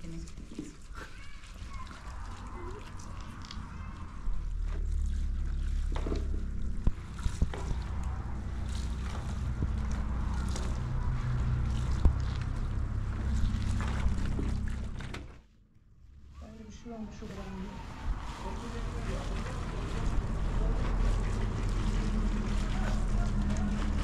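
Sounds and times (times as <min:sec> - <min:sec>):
water sloshing in metal basin: 0:00.0 - 0:15.3, 0:18.1 - 0:24.0
wet cloth squeezed and wrung: 0:00.0 - 0:15.3, 0:17.9 - 0:24.0
low rumble: 0:01.7 - 0:24.0.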